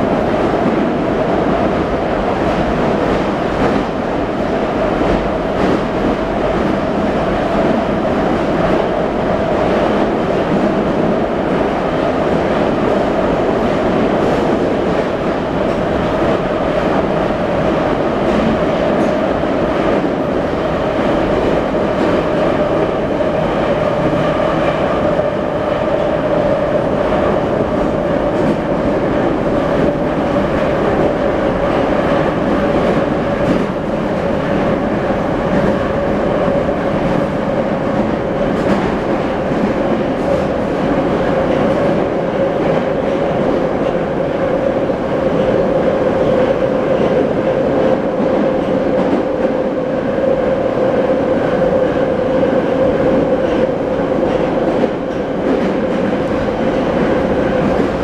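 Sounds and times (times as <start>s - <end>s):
metro train rolling at speed: 0.0s - 58.0s.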